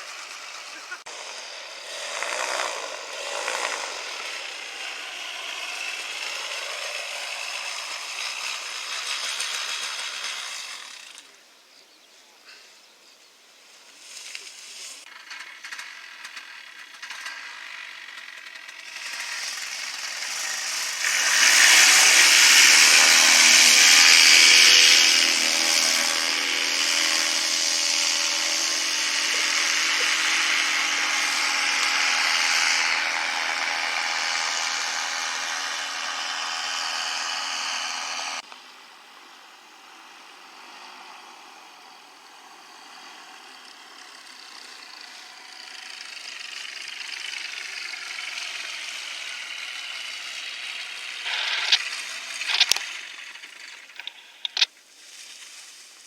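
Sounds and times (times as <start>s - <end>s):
small engine buzzing: 0.0s - 11.6s, 13.9s - 56.0s.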